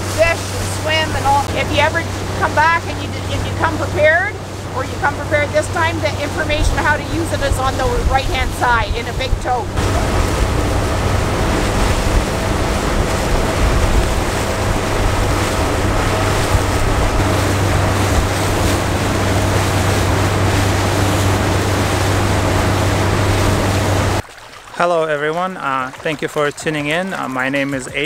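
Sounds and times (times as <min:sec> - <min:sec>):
boat motor humming: 0:00.0 - 0:24.2
water noise: 0:00.0 - 0:28.0
wind: 0:00.0 - 0:28.0.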